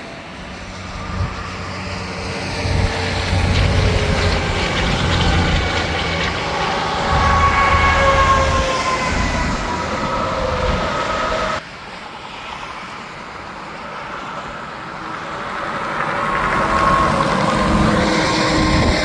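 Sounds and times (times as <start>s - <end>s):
truck passing with whine: 0.0s - 11.6s, 14.7s - 19.0s
vehicle approaching: 0.0s - 11.6s, 14.8s - 19.0s.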